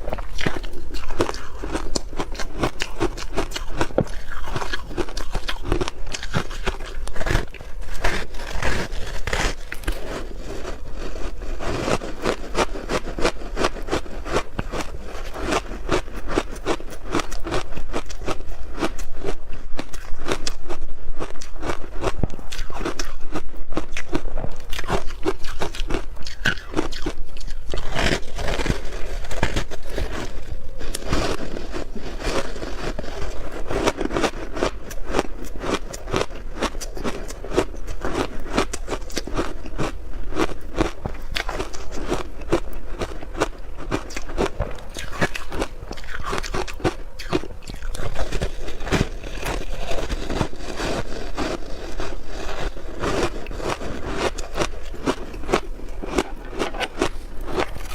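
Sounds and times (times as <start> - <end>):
ice being chewed: 0.0 - 57.9.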